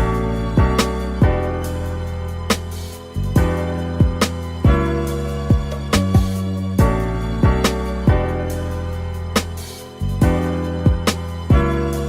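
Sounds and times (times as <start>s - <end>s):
slow beat with drum hits: 0.0s - 8.7s, 9.3s - 11.8s.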